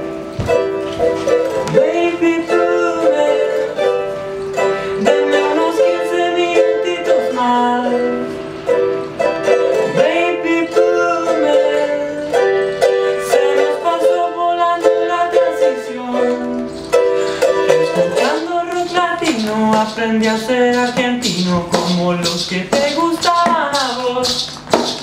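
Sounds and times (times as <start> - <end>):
ukulele strummed and picked: 0.0 - 25.0
man singing wordless melody: 1.5 - 8.4, 9.5 - 25.0.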